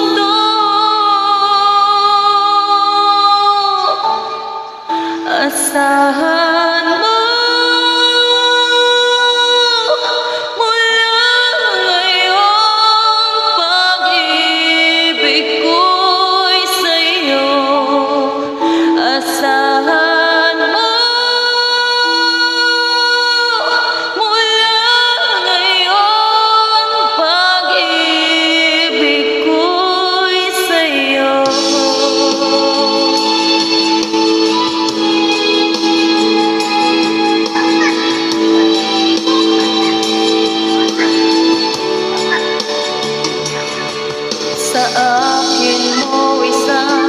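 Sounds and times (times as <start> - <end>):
backing track of sustained chords: 0.0 - 47.0
woman singing slow song: 0.0 - 47.0.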